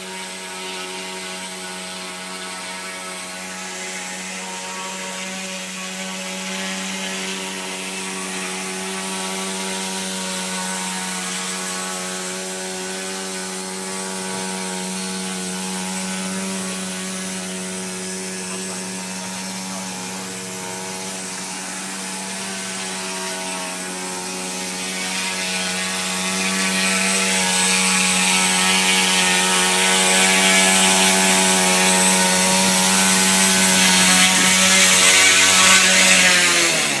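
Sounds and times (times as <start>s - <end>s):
model helicopter engine buzzing: 0.0s - 37.0s.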